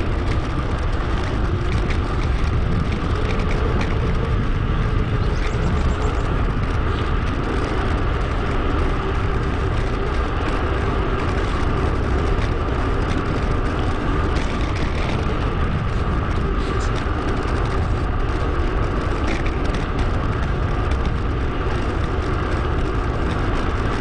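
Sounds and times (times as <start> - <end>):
bike tyre and road noise: 0.0 - 24.0
wind rush on microphone: 0.0 - 24.0.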